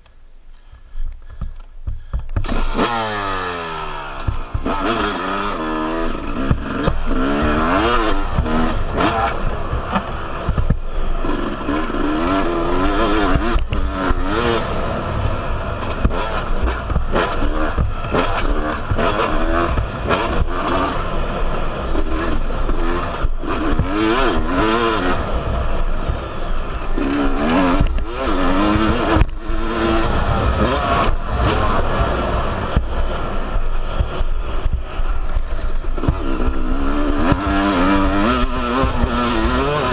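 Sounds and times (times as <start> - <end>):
two-stroke motorcycle engine revving: 0.7 - 39.9.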